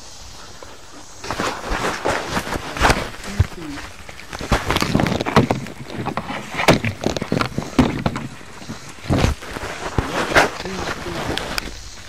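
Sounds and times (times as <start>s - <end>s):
irregular knocks and clatters: 1.3s - 11.7s.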